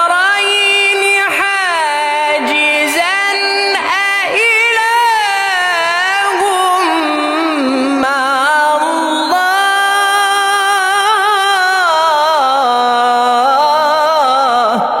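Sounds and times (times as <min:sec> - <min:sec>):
person singing with vibrato: 0:00.0 - 0:15.0.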